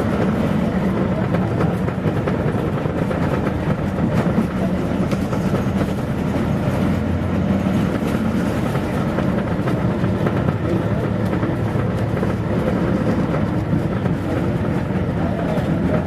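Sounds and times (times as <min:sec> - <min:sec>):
body rattles and clicks: 0:00.0 - 0:16.0
diesel engine droning: 0:00.0 - 0:16.0.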